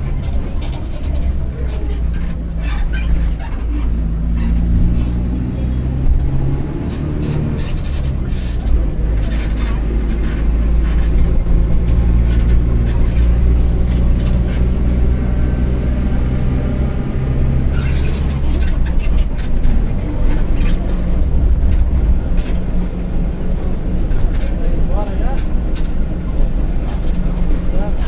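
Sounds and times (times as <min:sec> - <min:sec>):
bus body rattles: 0:00.0 - 0:28.0
bus engine drone: 0:00.0 - 0:28.0.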